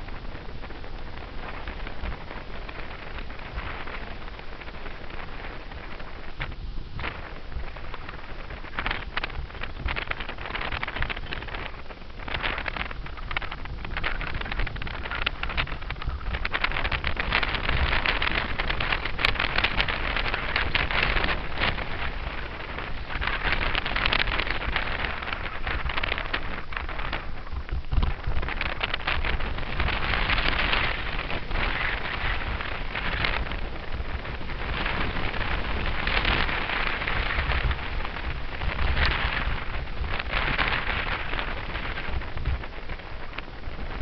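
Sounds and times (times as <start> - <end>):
bicycle tyre road noise: 0.0 - 44.0
wind buffeting microphone: 0.0 - 44.0.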